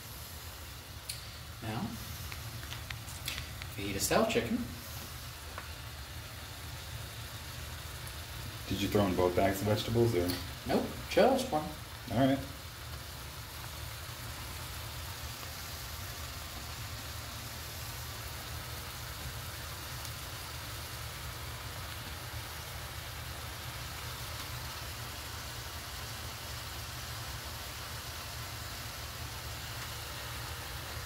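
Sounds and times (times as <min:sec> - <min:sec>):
vegetables sizzling in a saucepan: 0:00.0 - 0:31.0.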